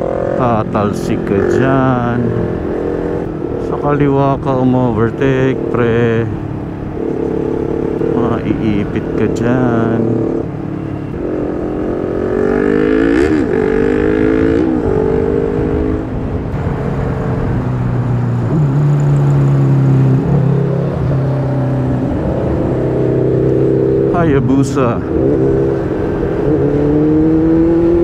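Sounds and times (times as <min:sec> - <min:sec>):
motorcycle engines passing: 0:00.0 - 0:28.0.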